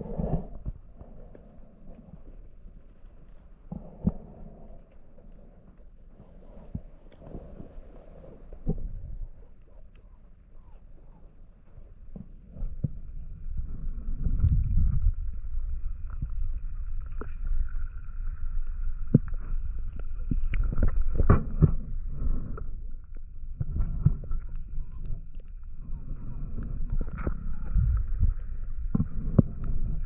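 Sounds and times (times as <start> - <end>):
underwater rumble of moving water: 0.0 - 30.0.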